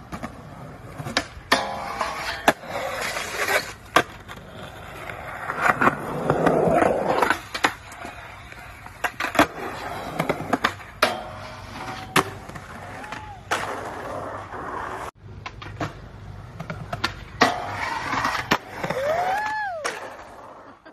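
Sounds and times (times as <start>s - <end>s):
skateboard clacking: 0.0s - 20.7s
skateboard wheels rolling on concrete: 0.0s - 20.9s.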